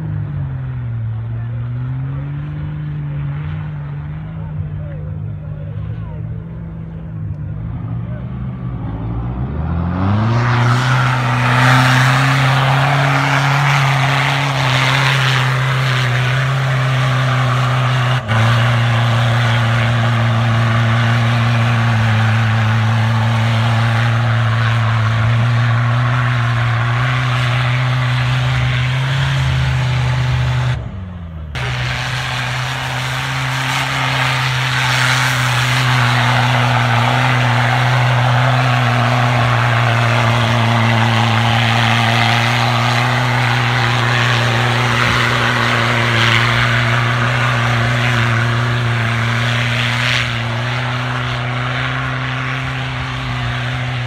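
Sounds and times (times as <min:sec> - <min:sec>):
truck engine at high revs: 0:00.0 - 0:54.0.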